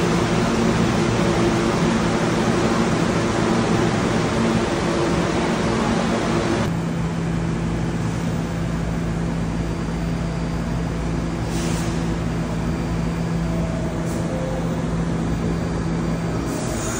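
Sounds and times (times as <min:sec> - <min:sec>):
subway station rumble: 0:00.0 - 0:16.9
subway train running: 0:00.0 - 0:16.9.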